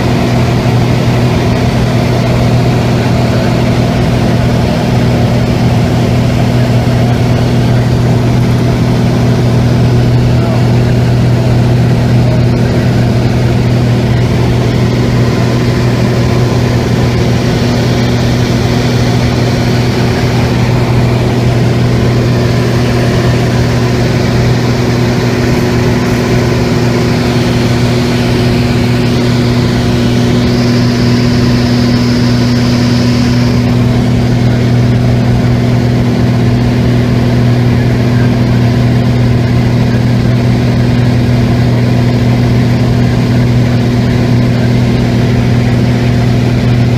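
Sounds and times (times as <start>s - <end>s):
light aircraft engine drone: 0.0s - 46.9s.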